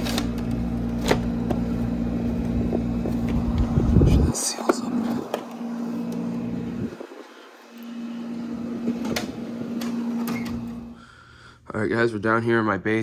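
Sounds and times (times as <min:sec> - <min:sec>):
blower noise: 0:00.0 - 0:11.2
air conditioner humming: 0:00.0 - 0:13.0.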